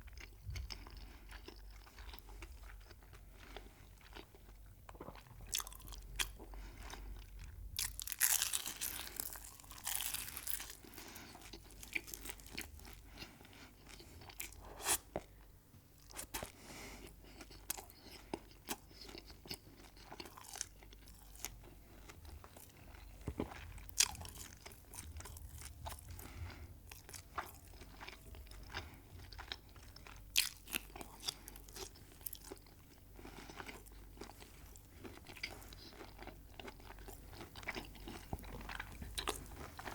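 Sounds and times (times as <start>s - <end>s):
crunchy chewing: 0.1s - 15.3s, 16.0s - 39.9s.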